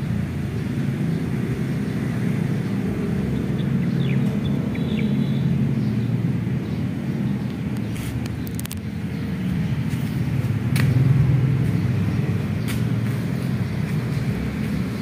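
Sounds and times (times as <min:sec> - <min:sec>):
motor traffic rumble: 0:00.0 - 0:15.0.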